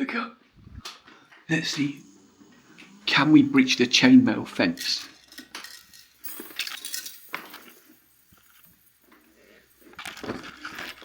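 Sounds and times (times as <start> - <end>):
chainmail curtain rattling: 2.0 - 11.0.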